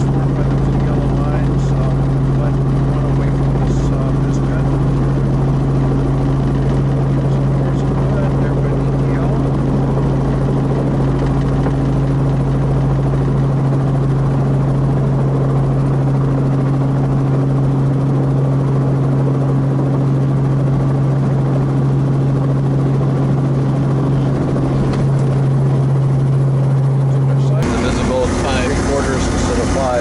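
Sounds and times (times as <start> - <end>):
helicopter rotor and engine hum: 0.0 - 30.0.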